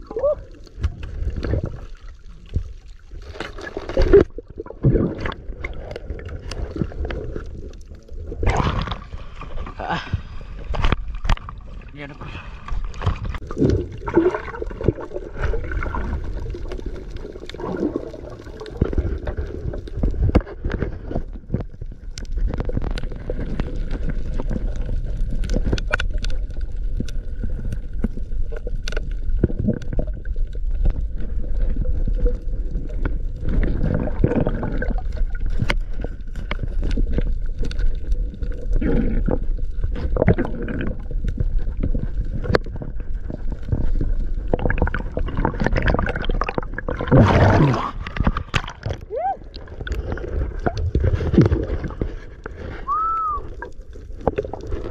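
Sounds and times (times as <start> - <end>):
water splashing: 0.0 - 21.1, 21.9 - 54.9.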